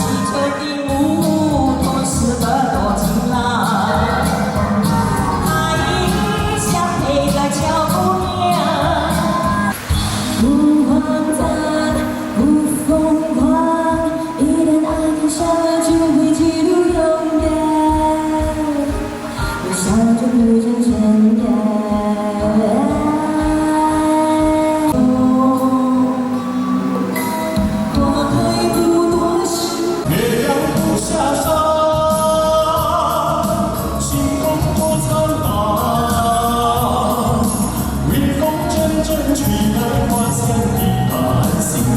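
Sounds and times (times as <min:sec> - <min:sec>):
backing track with steady beat: 0:00.0 - 0:41.9
musical accompaniment: 0:00.0 - 0:41.9
person singing long notes: 0:00.0 - 0:41.9.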